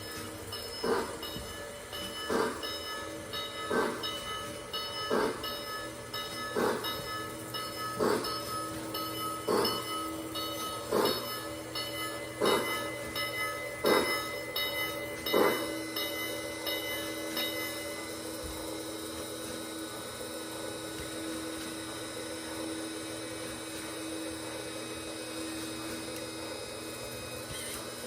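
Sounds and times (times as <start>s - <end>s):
small electric motor humming: 0.0s - 28.0s.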